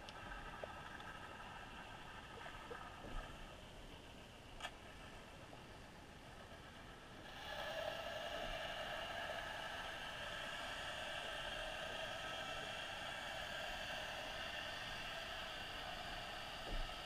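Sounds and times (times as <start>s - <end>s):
muffled underwater whir and hiss: 0.0s - 17.0s.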